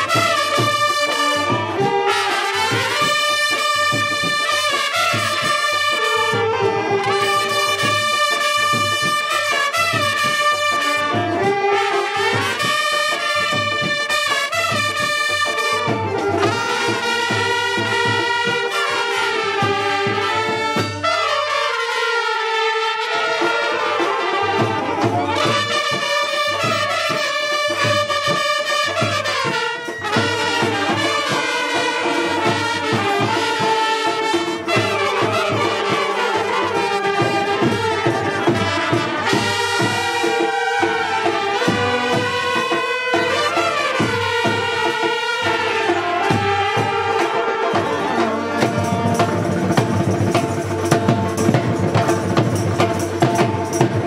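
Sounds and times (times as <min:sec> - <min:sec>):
drum beat: 0:00.0 - 0:21.8, 0:23.1 - 0:54.0
saxophones and trumpets playing: 0:00.0 - 0:54.0.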